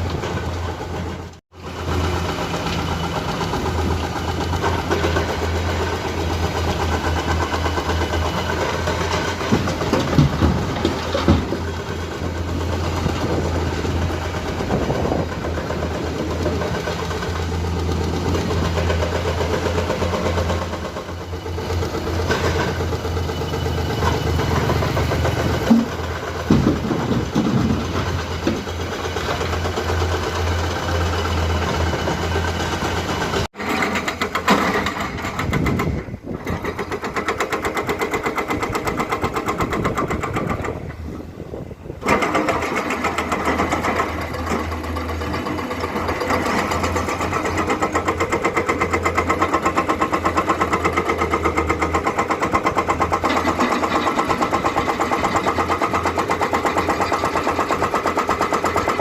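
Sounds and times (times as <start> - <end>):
excavator diesel engine running: 0.0 - 59.0
knocks and clatter: 2.0 - 41.1, 42.0 - 59.0.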